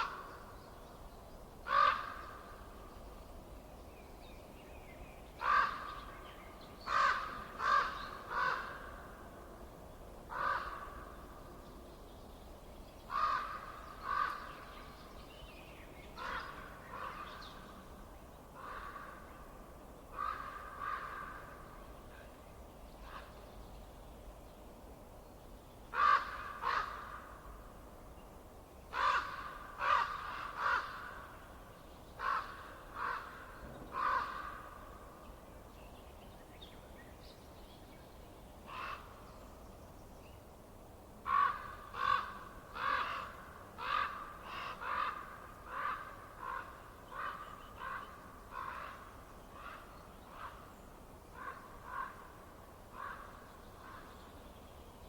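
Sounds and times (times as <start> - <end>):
faint background noise: 0.0 - 55.0.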